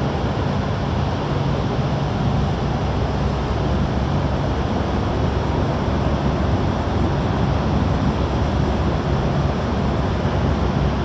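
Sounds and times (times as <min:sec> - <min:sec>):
rushing wind-like noise: 0:00.0 - 0:11.0
ship engine rumble: 0:00.0 - 0:11.0.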